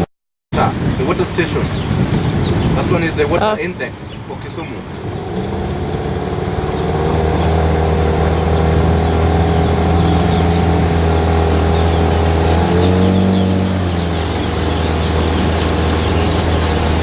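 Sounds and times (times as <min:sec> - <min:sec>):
motorboat engine running: 0:00.6 - 0:17.0.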